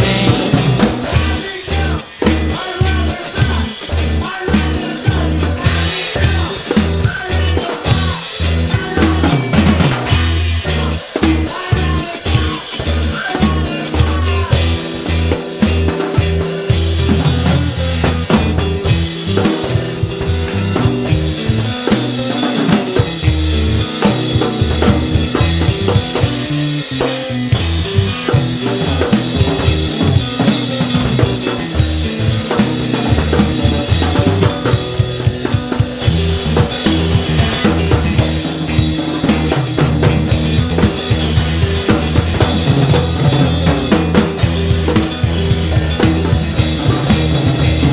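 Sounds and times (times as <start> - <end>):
drum kit playing: 0.0 - 47.9
recorded rock song: 0.0 - 47.9.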